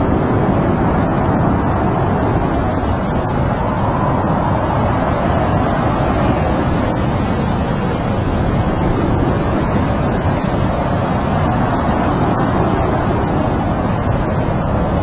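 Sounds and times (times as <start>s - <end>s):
strong wind blowing past tent: 0.0s - 15.0s.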